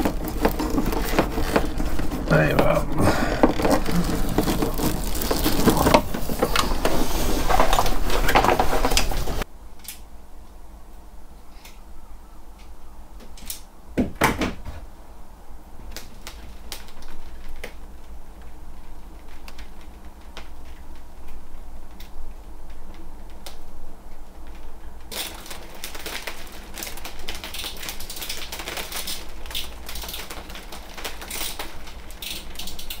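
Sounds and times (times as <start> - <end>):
cables rustling and scraping: 0.0 - 9.5, 15.7 - 33.0.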